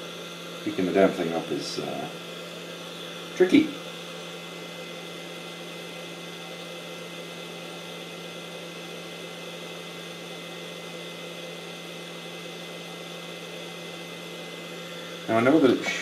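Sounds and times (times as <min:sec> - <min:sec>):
hot air station fan humming: 0:00.0 - 0:16.0.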